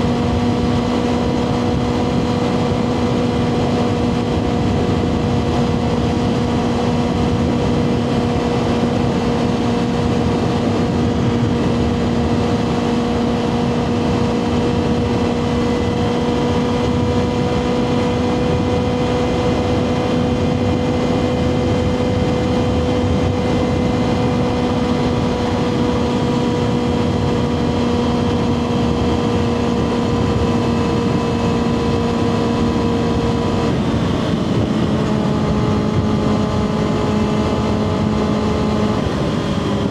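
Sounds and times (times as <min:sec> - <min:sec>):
motorcycle engine high-revving: 0:00.0 - 0:39.9.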